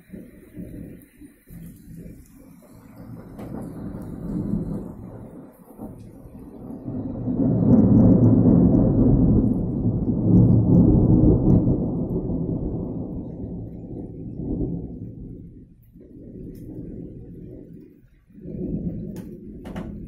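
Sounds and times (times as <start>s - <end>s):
thunder rumbling: 0.0s - 20.0s.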